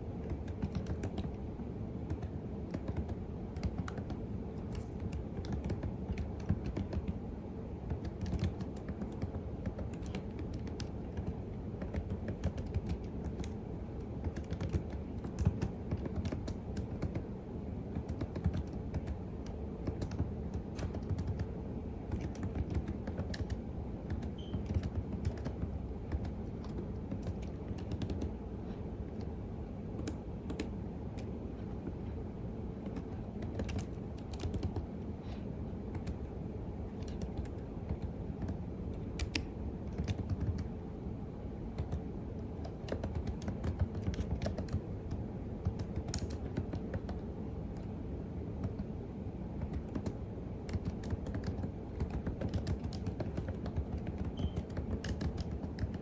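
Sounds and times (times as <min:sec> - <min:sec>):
typing on computer keyboard: 0:00.2 - 0:01.4, 0:02.0 - 0:07.2, 0:07.8 - 0:17.3, 0:17.9 - 0:28.4, 0:29.0 - 0:31.4, 0:32.8 - 0:36.3, 0:36.9 - 0:40.8, 0:41.7 - 0:47.9, 0:48.6 - 0:48.9, 0:49.6 - 0:56.0.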